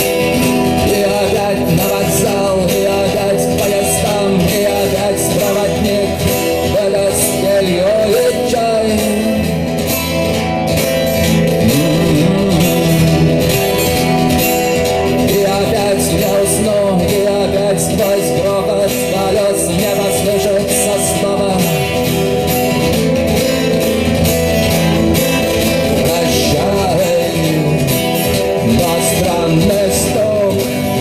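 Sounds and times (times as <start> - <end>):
acoustic guitar: 0.0 - 31.0
man singing rock song: 0.0 - 31.0.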